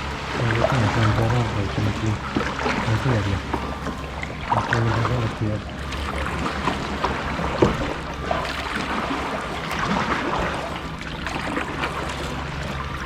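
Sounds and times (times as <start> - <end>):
paddle dipping into water: 0.0 - 13.0
water splashing and dripping: 0.0 - 13.0.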